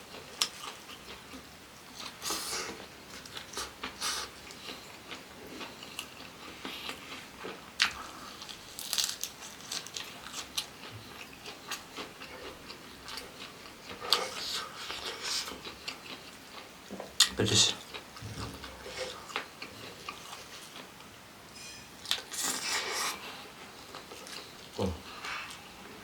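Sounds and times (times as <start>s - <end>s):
person chewing food: 0.0s - 21.2s, 22.0s - 25.8s.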